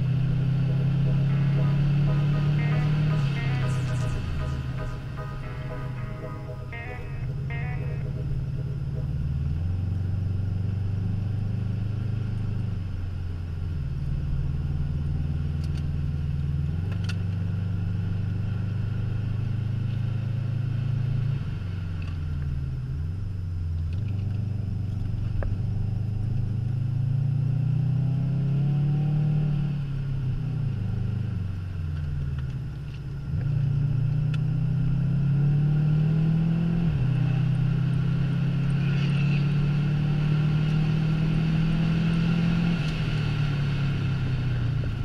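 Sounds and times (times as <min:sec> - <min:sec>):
car engine revving in cabin: 0:00.0 - 0:22.1, 0:23.8 - 0:45.0.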